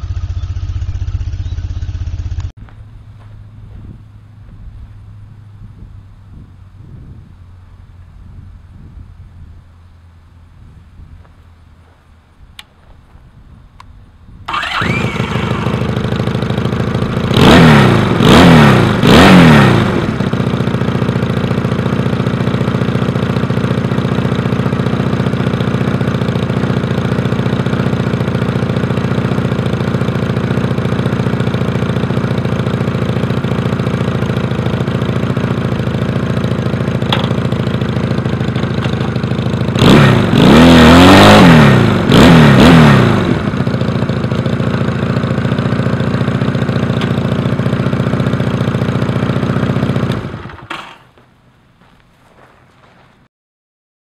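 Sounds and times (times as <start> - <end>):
motorcycle engine idling and revving: 0.0 - 53.3.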